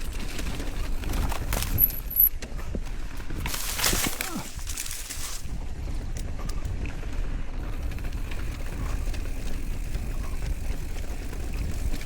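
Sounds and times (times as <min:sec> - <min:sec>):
bicycle tyre noise: 0:00.0 - 0:12.0
wind rumble on microphone: 0:00.0 - 0:12.0.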